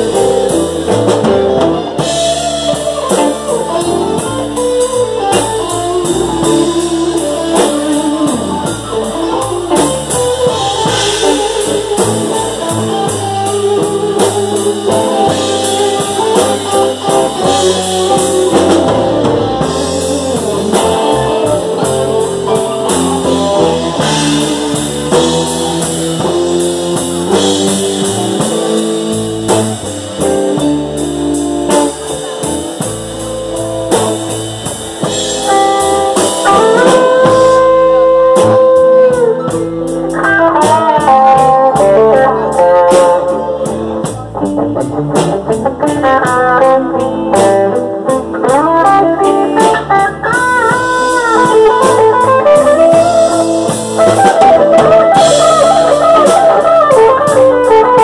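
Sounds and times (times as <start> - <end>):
drum kit: 0.0 - 58.0
electric guitar: 0.0 - 58.0
live blues band: 0.0 - 58.0.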